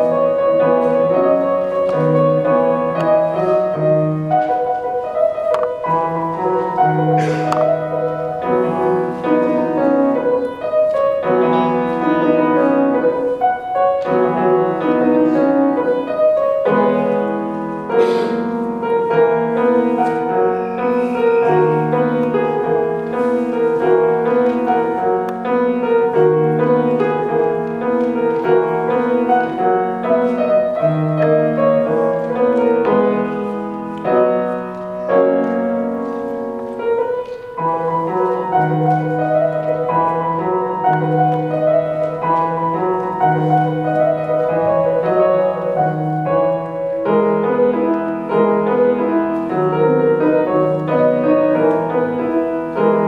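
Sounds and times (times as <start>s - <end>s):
solo grand piano: 0.0s - 53.0s.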